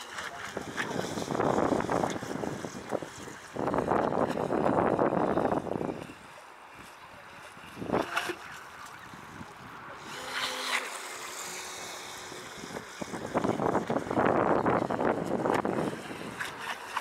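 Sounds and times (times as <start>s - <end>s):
model boat motor whine: 0.0s - 17.0s
wind on microphone: 0.0s - 17.0s.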